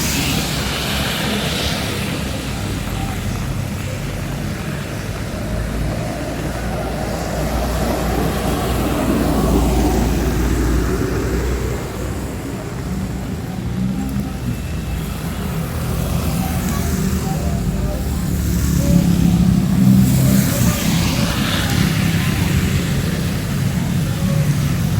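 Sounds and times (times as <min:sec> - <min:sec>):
heavy rain pouring: 0:00.0 - 0:24.9
vehicle passing on wet road: 0:00.0 - 0:24.9.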